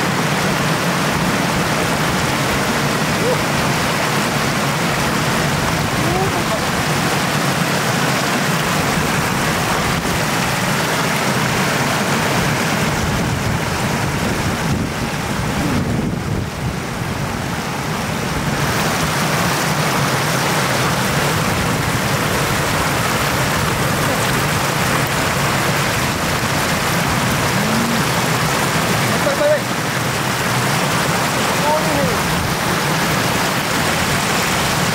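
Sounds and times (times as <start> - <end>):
floodwater rushing across road: 0.0 - 34.9.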